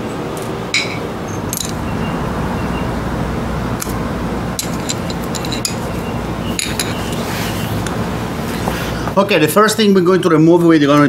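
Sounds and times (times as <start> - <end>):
low background hum: 0.0 - 10.8.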